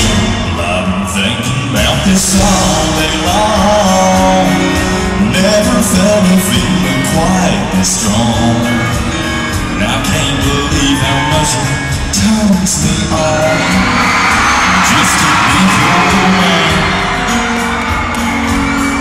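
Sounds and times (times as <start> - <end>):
man singing: 0.0 - 17.8
live country band playing: 0.0 - 19.0.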